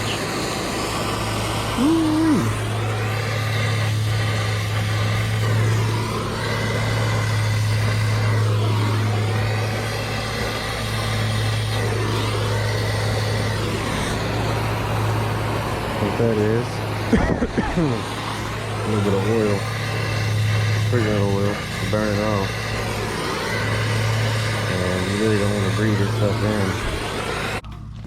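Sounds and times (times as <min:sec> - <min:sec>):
low hum: 0:00.0 - 0:28.0
torch flame roaring: 0:00.0 - 0:28.0.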